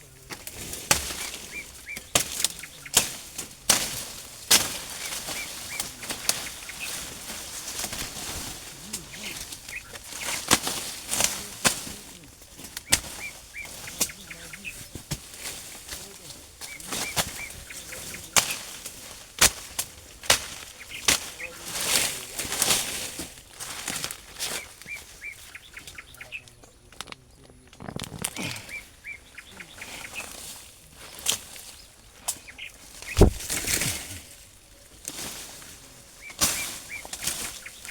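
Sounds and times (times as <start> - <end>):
rustling and crackling of plants: 0.0 - 37.9
small birds chirping: 0.0 - 37.9.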